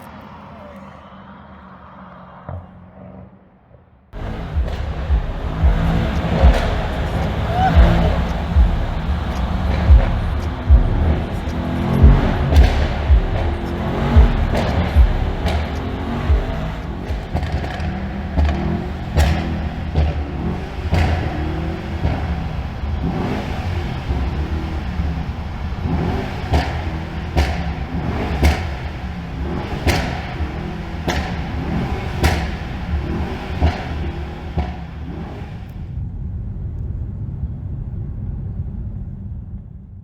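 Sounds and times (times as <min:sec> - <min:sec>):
car engine revving: 0:00.0 - 0:39.4
exhaust popping and crackling: 0:04.2 - 0:40.0.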